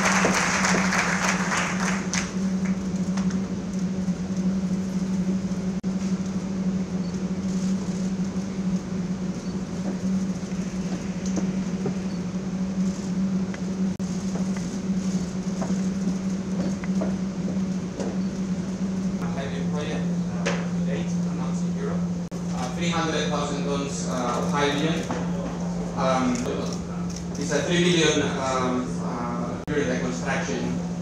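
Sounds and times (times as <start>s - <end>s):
low mechanical hum: 0.0s - 31.0s
room noise: 0.0s - 31.0s.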